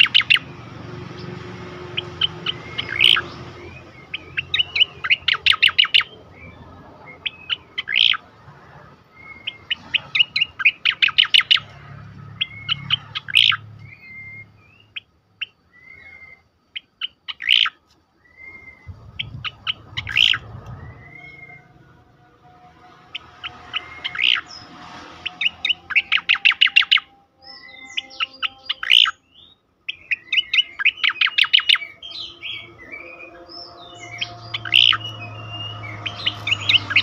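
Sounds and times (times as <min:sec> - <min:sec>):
bird singing rapid notes and whistles: 0:00.0 - 0:08.3, 0:09.0 - 0:37.0.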